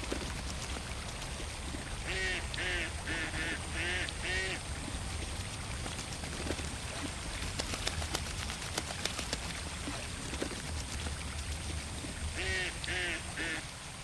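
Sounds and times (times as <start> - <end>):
small water splashes and drips: 0.0 - 14.0.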